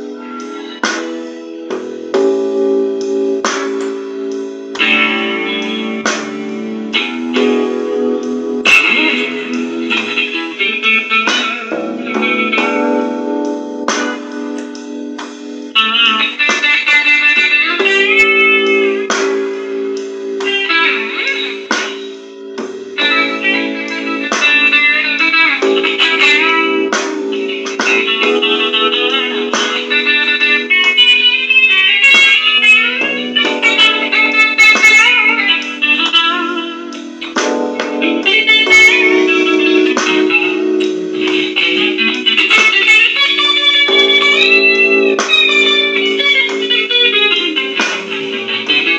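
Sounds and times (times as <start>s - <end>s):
electric guitar blues: 0.0s - 48.9s.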